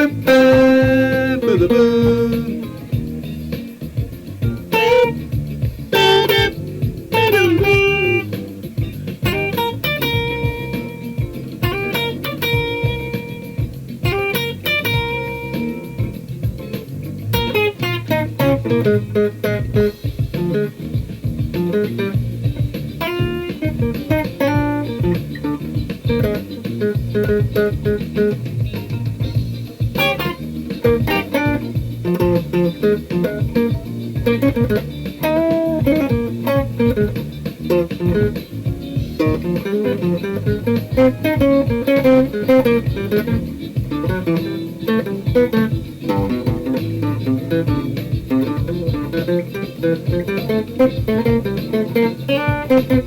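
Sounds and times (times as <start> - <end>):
low groove: 0.0 - 53.0
plucked guitar melody: 0.0 - 53.0.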